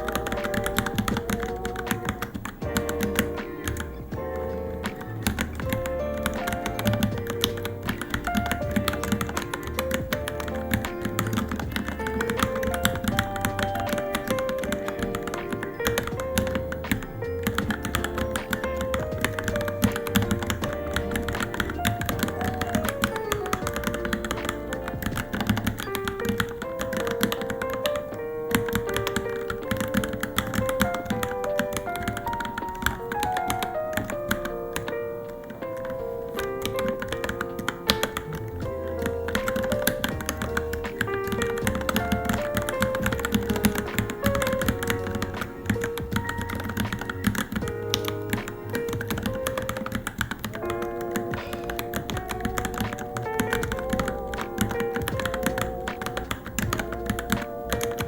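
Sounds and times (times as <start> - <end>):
background music: 0.0 - 58.0
mechanical keyboard typing: 0.0 - 58.0.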